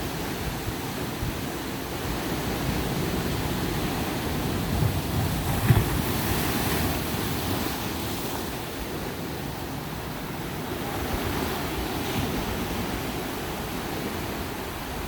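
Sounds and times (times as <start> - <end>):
ocean surf on beach: 0.0 - 15.0.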